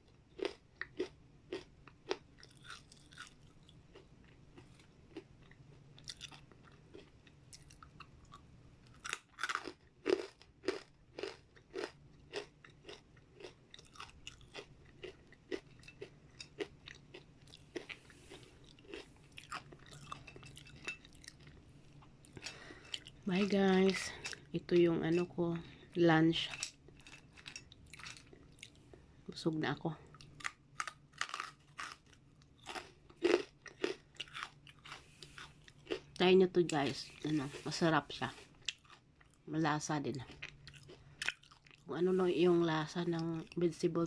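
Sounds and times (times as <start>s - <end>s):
crunching and chewing crispy chips: 0.0s - 29.0s, 30.1s - 36.2s, 37.4s - 39.5s, 40.1s - 41.9s.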